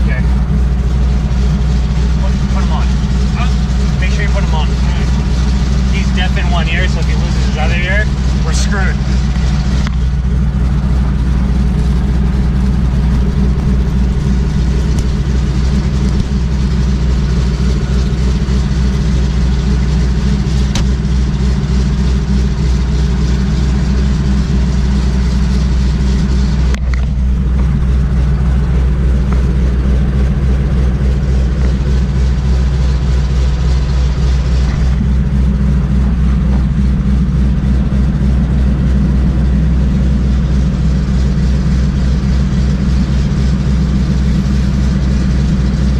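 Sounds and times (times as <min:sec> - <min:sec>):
propeller plane engine running: 0:00.0 - 0:45.9.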